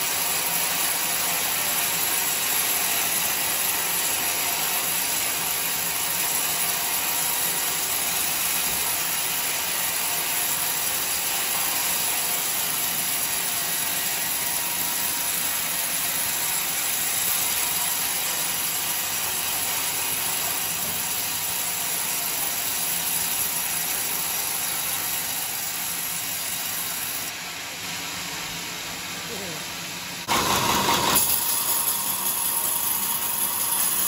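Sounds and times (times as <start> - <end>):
saw blade hissing through wood: 0.0 - 27.3.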